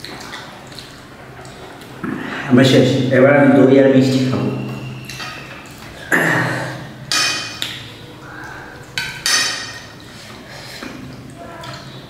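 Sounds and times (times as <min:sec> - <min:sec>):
eating noises: 0:00.0 - 0:02.5, 0:04.0 - 0:12.0.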